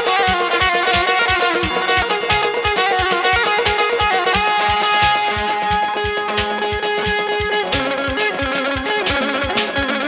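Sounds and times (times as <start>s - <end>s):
drums beating: 0.0s - 10.0s
electric guitar melody: 0.0s - 10.0s
keyboard: 0.0s - 10.0s.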